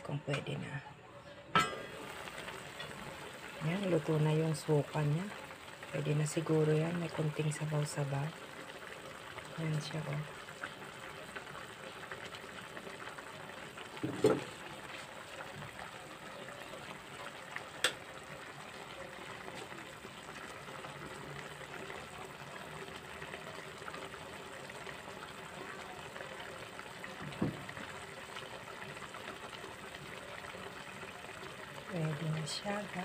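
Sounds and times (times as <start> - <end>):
sauce bubbling in a pot: 1.7 - 33.0.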